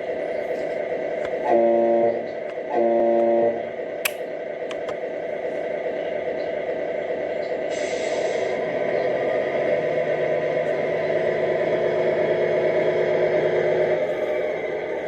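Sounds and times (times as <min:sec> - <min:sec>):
simulated truck engine from speaker: 0:00.0 - 0:15.0.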